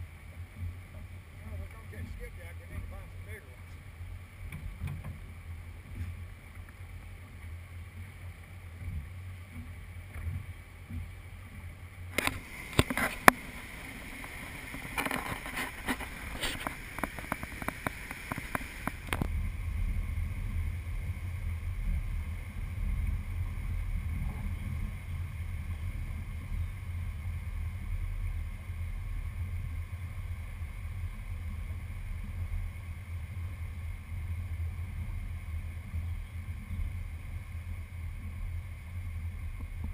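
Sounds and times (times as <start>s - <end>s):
boat motor and water rumble: 0.0s - 39.9s.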